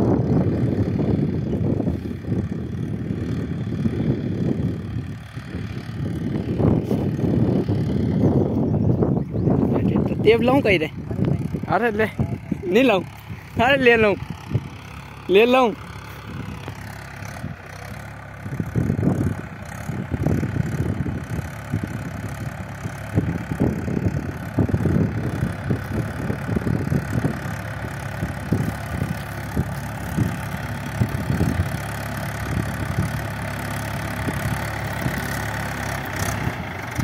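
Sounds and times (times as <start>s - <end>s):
tractor diesel engine rumbling: 0.0s - 37.0s.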